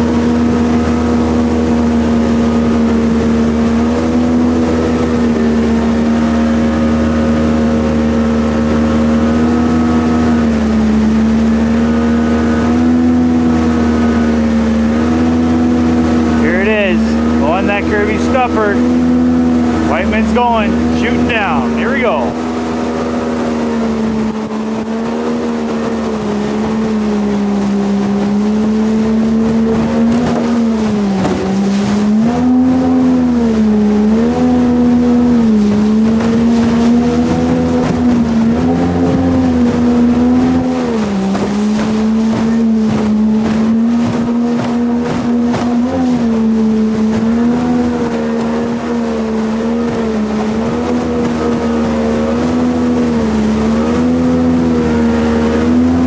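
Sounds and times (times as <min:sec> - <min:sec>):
jet boat engine running: 0:00.0 - 0:56.0.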